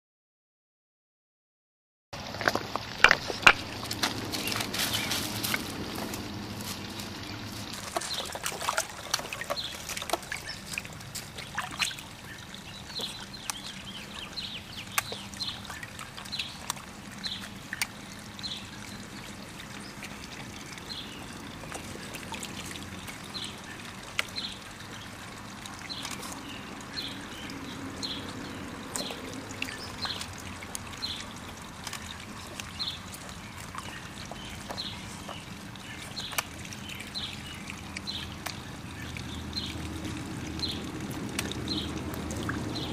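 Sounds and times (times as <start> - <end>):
dog lapping and splashing water: 2.2 - 42.9.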